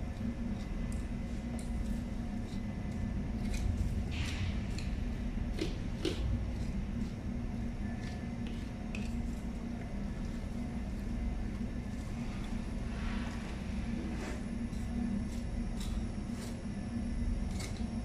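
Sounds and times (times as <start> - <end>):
knife cutting and scraping meat: 0.0 - 18.0
low machinery hum: 0.0 - 18.0.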